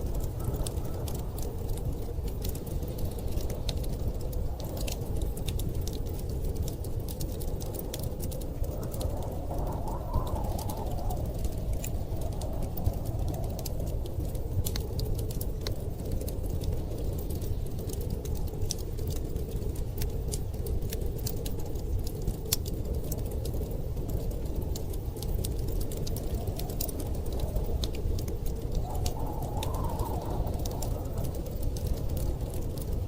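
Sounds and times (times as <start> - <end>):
blizzard wind rushing: 0.0 - 33.0
wood fire crackling: 0.0 - 33.0.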